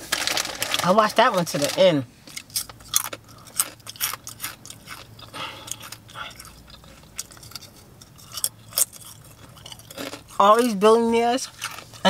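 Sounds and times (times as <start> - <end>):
chewing crunchy snack chip: 0.1 - 12.0.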